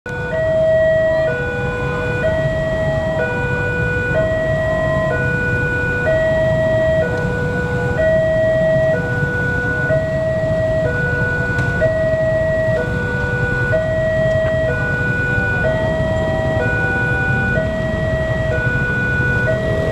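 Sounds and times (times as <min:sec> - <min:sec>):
two-tone crossing alarm: 0:00.1 - 0:19.9
low rumble: 0:02.2 - 0:19.9.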